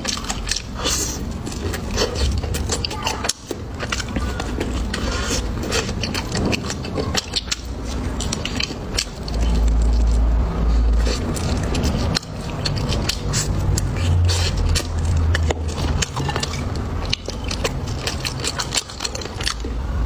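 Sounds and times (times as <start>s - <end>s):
food crunching while chewed: 0.0s - 20.0s.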